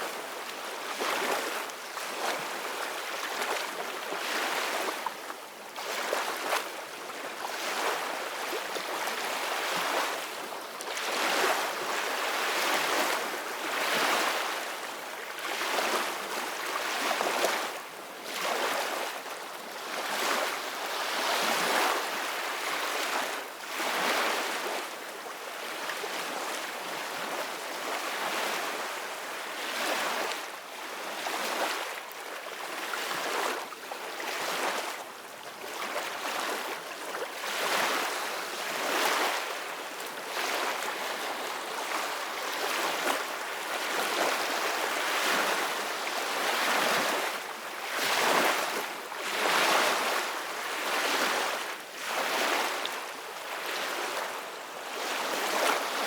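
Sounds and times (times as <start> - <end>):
wind: 0.0 - 56.0.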